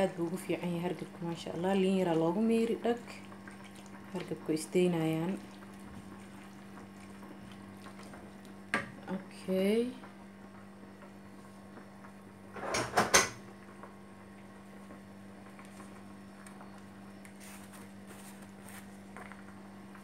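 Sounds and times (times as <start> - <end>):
low kitchen hum: 0.0 - 20.0.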